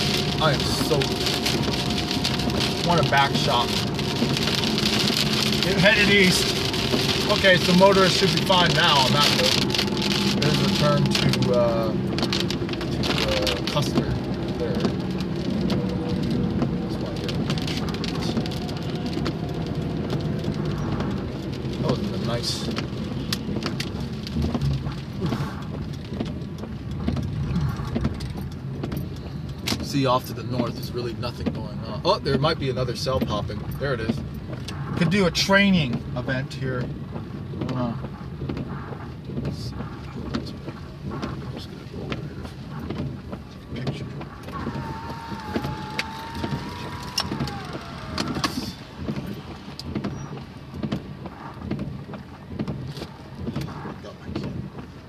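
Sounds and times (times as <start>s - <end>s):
car engine hum inside cabin: 0.0s - 55.0s.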